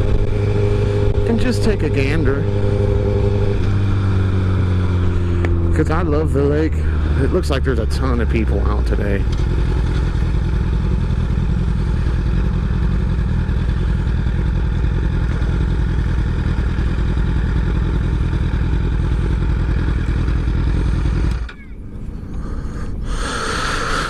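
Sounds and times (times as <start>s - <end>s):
motorcycle engine idling: 0.0s - 22.6s.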